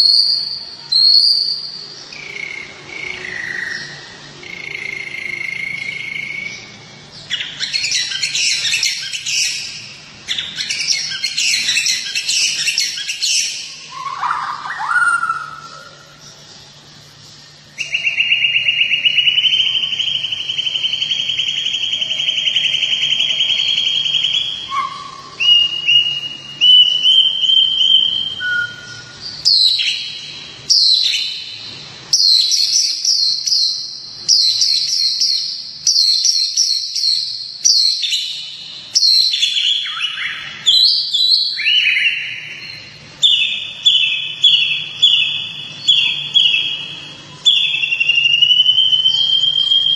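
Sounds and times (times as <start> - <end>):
songbird whistled phrases: 0.0 - 16.3, 17.6 - 49.9.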